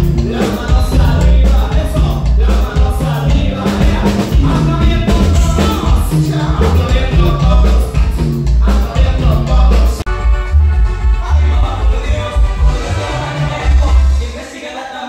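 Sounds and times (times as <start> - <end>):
live band playing latin dance music: 0.0 - 15.0
person singing: 0.0 - 15.0.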